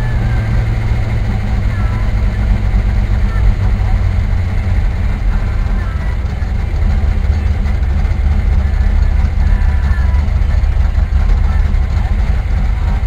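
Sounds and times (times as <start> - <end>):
car engine and exhaust: 0.0 - 13.0.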